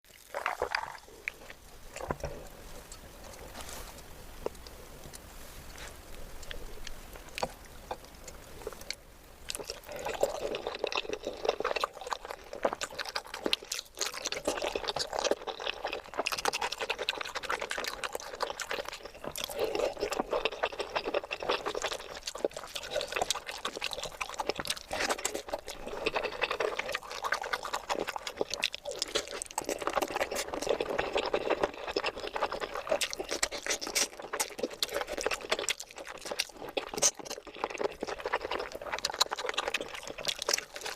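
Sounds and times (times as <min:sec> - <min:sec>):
wet squelchy eating sounds: 0:00.0 - 0:40.9.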